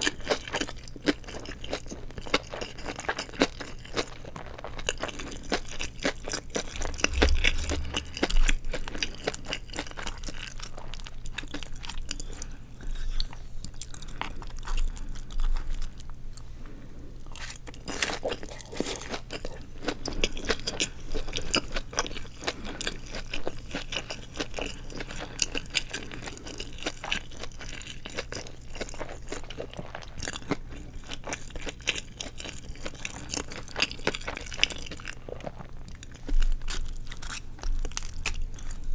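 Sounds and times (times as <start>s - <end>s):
crunching and chewing fried food: 0.0s - 8.3s, 10.0s - 38.9s.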